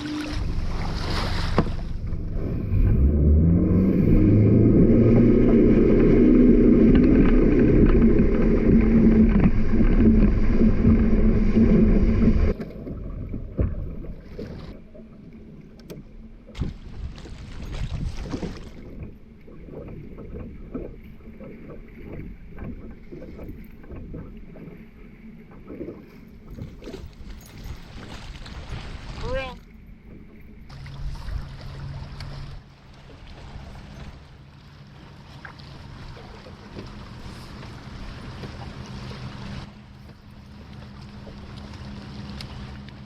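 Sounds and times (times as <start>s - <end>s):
boat motor running: 0.0s - 43.0s.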